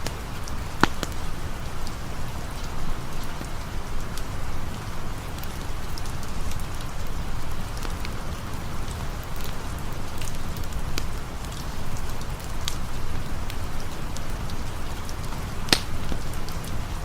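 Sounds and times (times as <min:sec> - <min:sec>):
campfire crackling and popping: 0:00.0 - 0:17.0
steady rain falling: 0:00.0 - 0:17.0.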